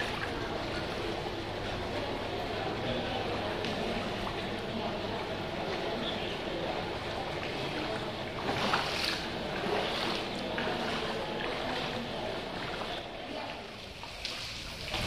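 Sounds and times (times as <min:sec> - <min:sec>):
rushing water: 0:00.0 - 0:15.0
water sloshing and splashing: 0:00.0 - 0:15.0.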